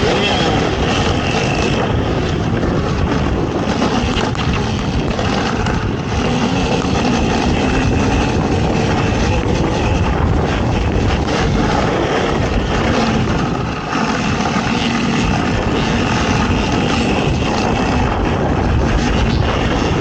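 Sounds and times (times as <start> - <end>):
race vehicle engine running loud: 0.0 - 20.0.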